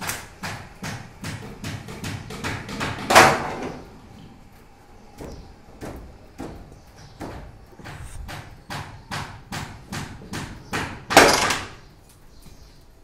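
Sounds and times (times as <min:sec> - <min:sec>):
knocks of bamboo and wood: 0:00.0 - 0:03.8, 0:05.2 - 0:11.8.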